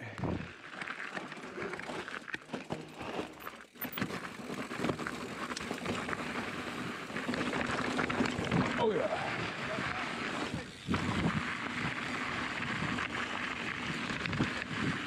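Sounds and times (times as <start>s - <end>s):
tyres crunching over loose stones: 0.0s - 15.0s
bike knocking and rattling on rocks: 0.1s - 15.0s.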